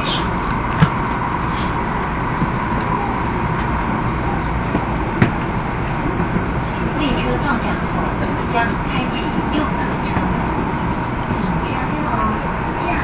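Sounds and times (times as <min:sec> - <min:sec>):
train rumble in tunnel: 0:00.0 - 0:13.0.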